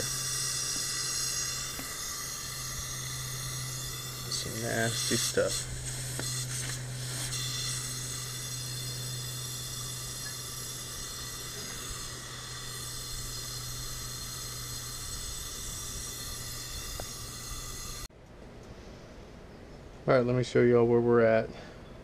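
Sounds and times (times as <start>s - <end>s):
pressurised gas hissing through line: 0.0s - 18.1s
low hum: 0.0s - 20.0s.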